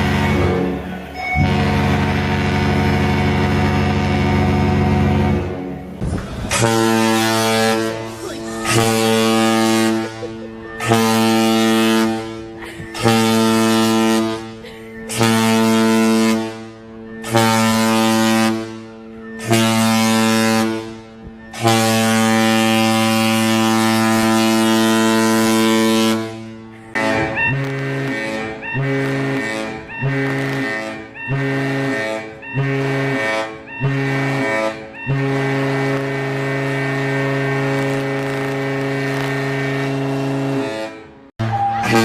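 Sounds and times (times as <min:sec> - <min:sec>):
ship's horn blasts: 0:00.0 - 0:42.0.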